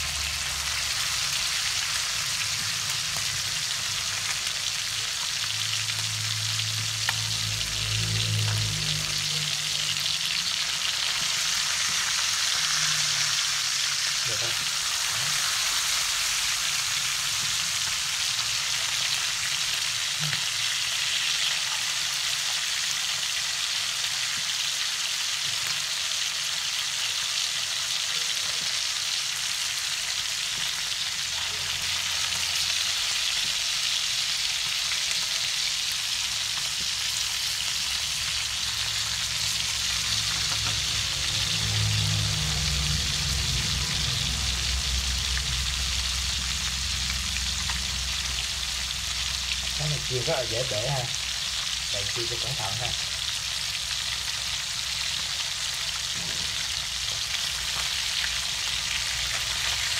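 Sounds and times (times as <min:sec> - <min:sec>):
fish sizzling in oil: 0:00.0 - 0:59.9.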